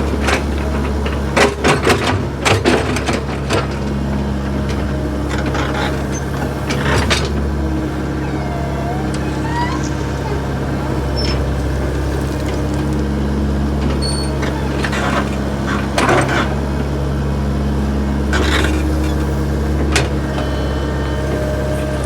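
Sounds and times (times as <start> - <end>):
backhoe engine humming: 0.0 - 22.0.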